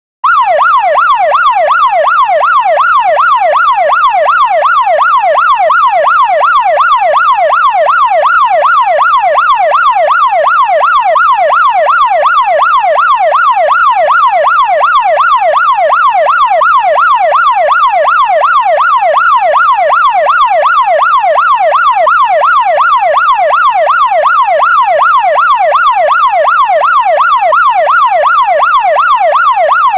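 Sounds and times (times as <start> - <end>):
police siren yelping: 0.2 - 29.9.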